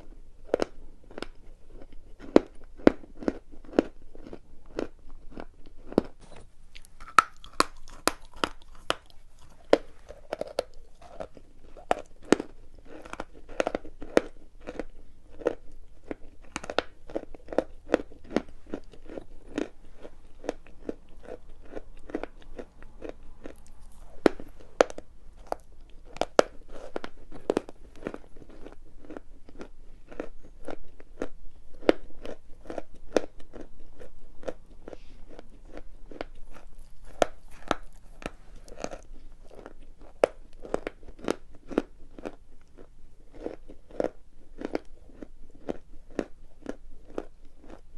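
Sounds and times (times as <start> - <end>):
chalk crunching being chewed: 0.0 - 47.9.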